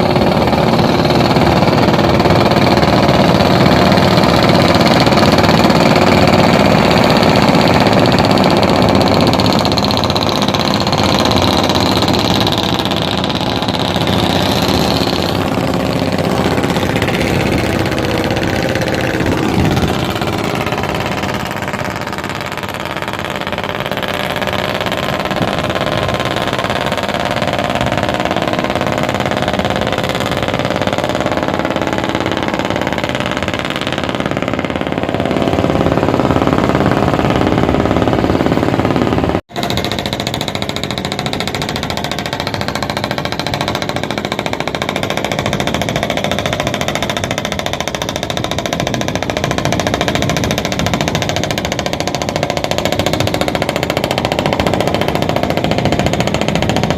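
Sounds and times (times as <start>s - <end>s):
boat engine running: 0.0s - 56.9s
high whine: 0.0s - 56.9s.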